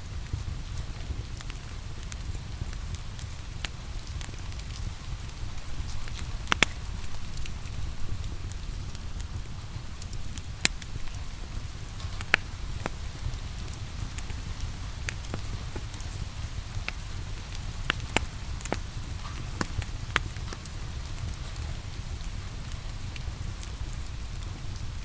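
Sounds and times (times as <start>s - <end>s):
rain hissing: 0.0s - 25.0s
wood fire crackling: 0.0s - 25.0s
sharp pops of fire: 1.1s - 24.5s.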